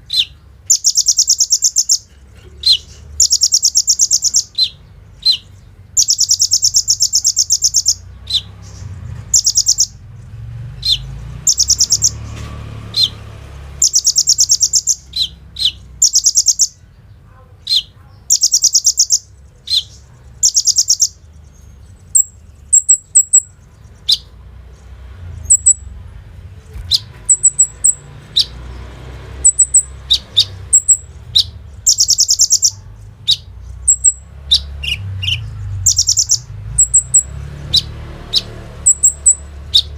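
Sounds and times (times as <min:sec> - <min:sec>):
bird trilling: 0:00.0 - 0:10.1, 0:10.8 - 0:16.9, 0:17.6 - 0:24.4, 0:25.3 - 0:26.0, 0:26.8 - 0:39.9
bird chirping: 0:00.0 - 0:39.9.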